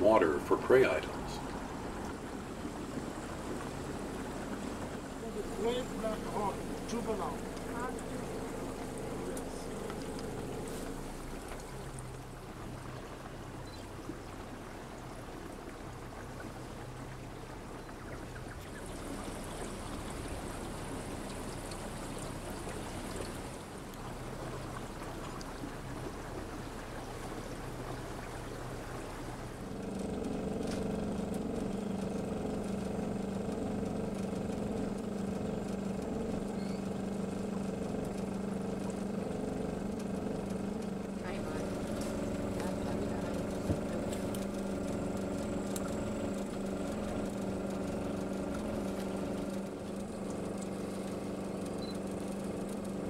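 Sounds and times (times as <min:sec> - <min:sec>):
motorboat engine running: 0:00.0 - 0:53.0
water rushing past hull: 0:00.0 - 0:53.0.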